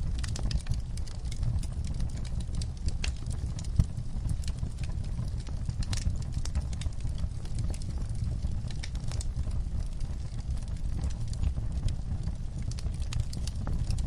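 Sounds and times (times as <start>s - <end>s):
fire crackling and snapping: 0.0s - 14.0s
low rumble of flames: 0.0s - 14.0s.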